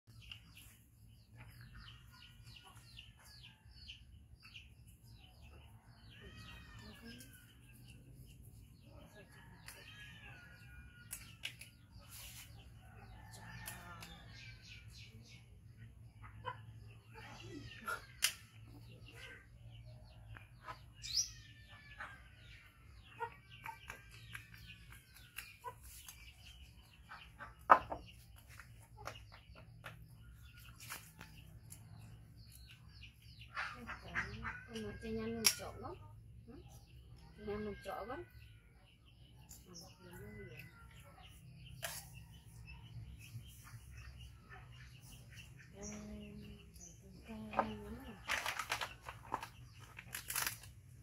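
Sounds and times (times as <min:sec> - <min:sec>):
faint small birds chirping: 0:00.0 - 0:51.0.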